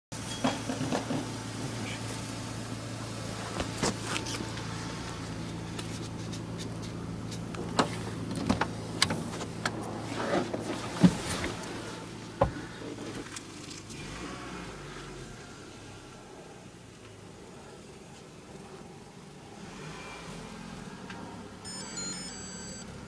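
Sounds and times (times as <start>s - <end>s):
car running hum: 0.1s - 23.0s.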